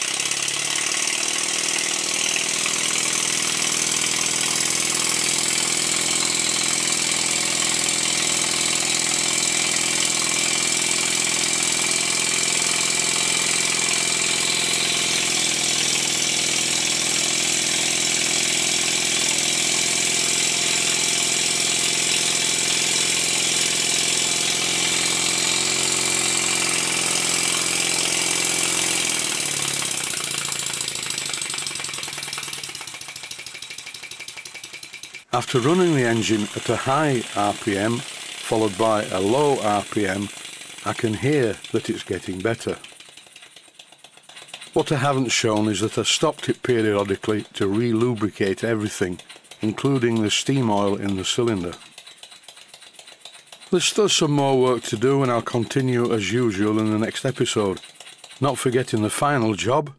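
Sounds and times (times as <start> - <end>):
model steam engine exhaust beats: 0.0 - 59.9.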